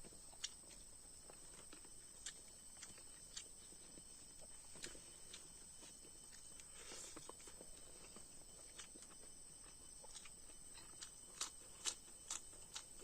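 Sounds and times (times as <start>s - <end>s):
person chewing and eating: 0.0s - 13.0s.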